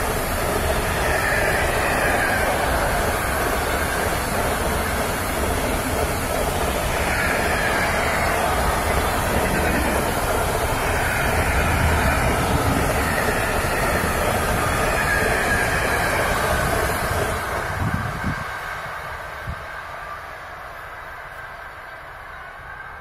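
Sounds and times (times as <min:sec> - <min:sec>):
train wagons rumbling on rails: 0:00.0 - 0:23.0.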